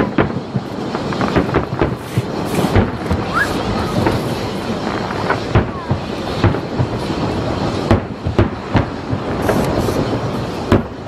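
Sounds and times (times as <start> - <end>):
fireworks bursting in sharp bangs: 0.0 - 11.0
steady background noise: 0.0 - 11.0.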